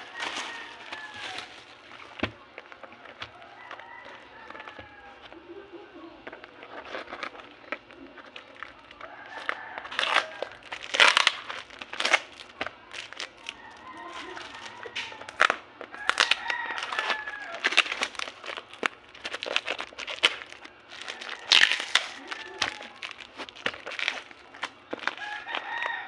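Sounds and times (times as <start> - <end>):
packaging crinkling and tearing: 0.0 - 26.0.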